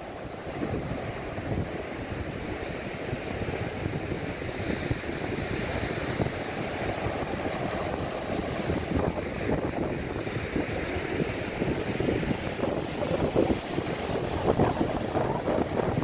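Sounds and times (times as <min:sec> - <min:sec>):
waves washing up a sandy beach: 0:00.0 - 0:16.0
wind buffeting microphone: 0:00.0 - 0:16.0.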